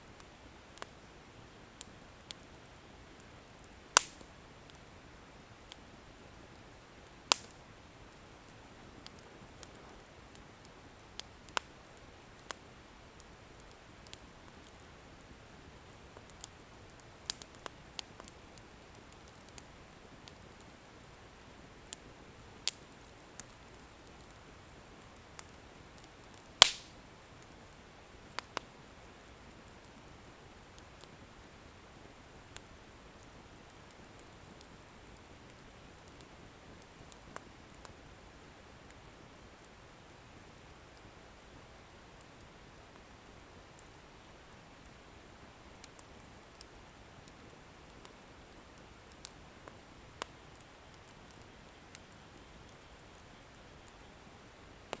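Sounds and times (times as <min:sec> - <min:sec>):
faint steady hiss: 0:00.0 - 0:55.0
bonfire crackling and popping: 0:00.1 - 0:55.0.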